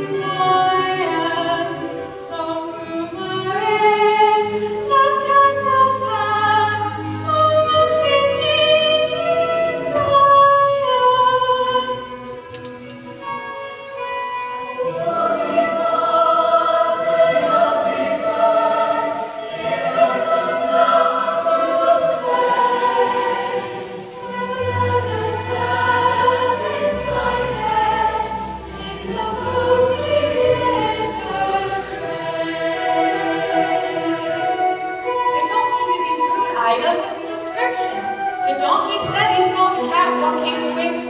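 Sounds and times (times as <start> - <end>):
ensemble of voices singing: 0.0 - 41.0
musical accompaniment: 0.0 - 41.0.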